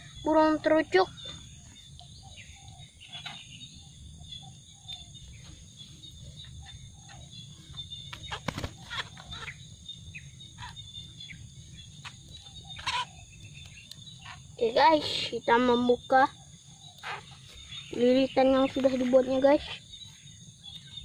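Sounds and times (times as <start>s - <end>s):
faint bird chirps: 0.0s - 21.0s
high insect drone: 0.0s - 21.0s.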